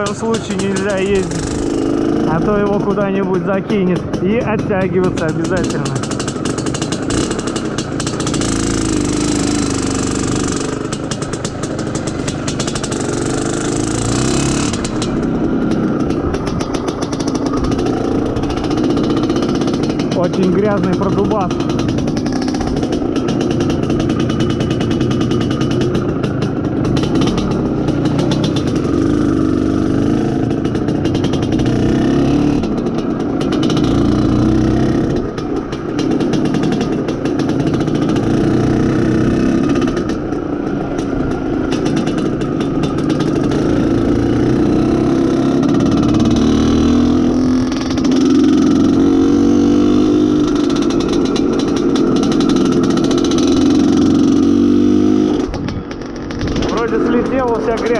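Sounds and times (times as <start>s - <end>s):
two-stroke motorcycle engine revving: 0.0s - 57.9s.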